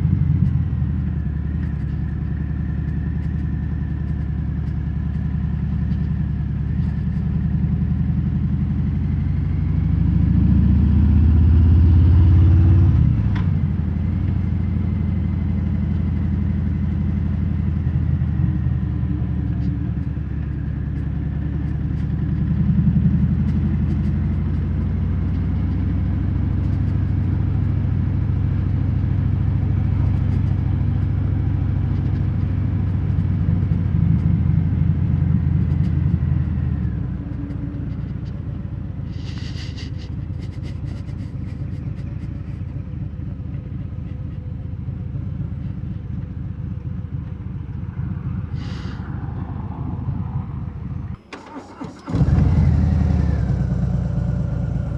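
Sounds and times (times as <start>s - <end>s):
motorcycle engine under throttle: 0.0s - 49.1s, 50.0s - 54.9s.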